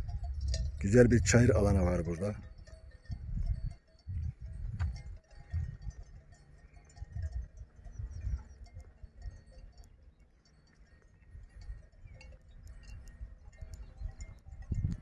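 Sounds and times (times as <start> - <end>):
wind gusting against microphone: 0.0 - 9.4, 11.4 - 15.0
faint high clinks: 0.0 - 15.0.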